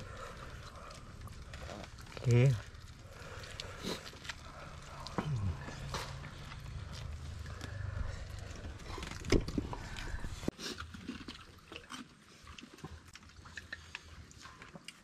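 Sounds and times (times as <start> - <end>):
noodles slurped and chewed: 0.0 - 15.0.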